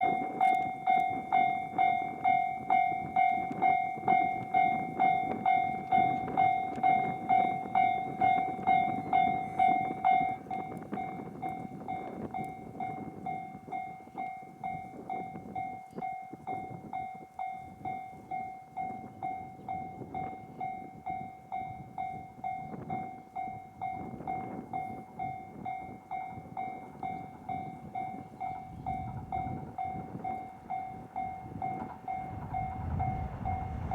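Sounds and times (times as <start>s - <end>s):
train running noise: 0.0s - 33.9s.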